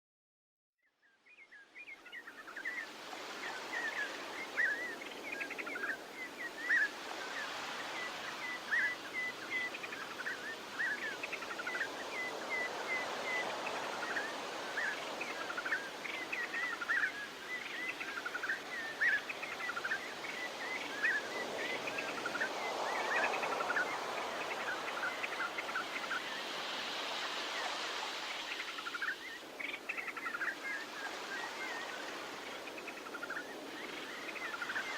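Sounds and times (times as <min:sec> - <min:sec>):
small birds chirping: 0:01.0 - 0:34.9.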